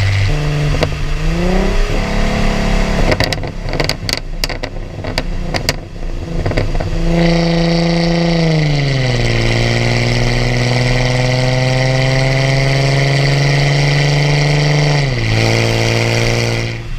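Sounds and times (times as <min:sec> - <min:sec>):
exhaust crackles: 0:00.0 - 0:16.9
loud exhaust drone: 0:00.0 - 0:16.9
steady high whine: 0:00.0 - 0:16.9.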